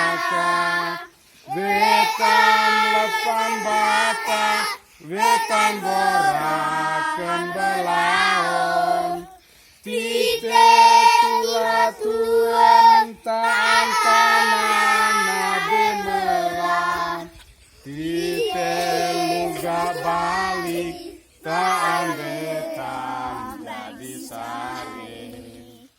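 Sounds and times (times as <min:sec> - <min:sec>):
children singing unaccompanied: 0:00.0 - 0:25.9.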